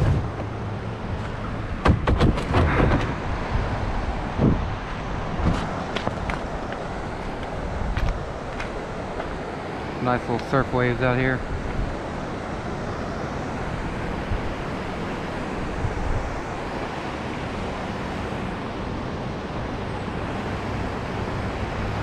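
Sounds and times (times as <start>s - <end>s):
wind buffeting microphone: 0.0s - 0.8s, 1.4s - 9.7s, 10.3s - 19.5s
flowing river: 0.0s - 22.0s.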